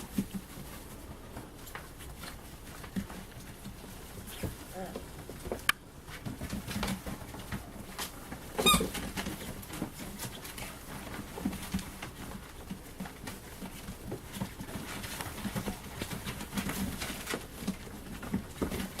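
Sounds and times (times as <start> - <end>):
rustling of puppies scrambling: 0.0 - 19.0.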